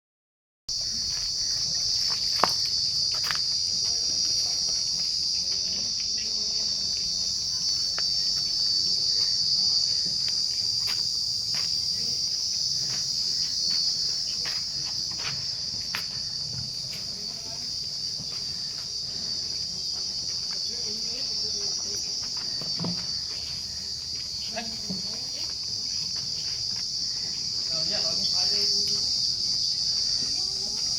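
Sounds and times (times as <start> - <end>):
insects chorus: 0.7 - 30.9.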